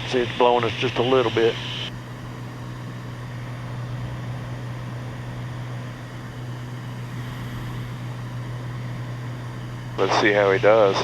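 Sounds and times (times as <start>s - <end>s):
plane engine droning in cabin: 0.0s - 11.0s.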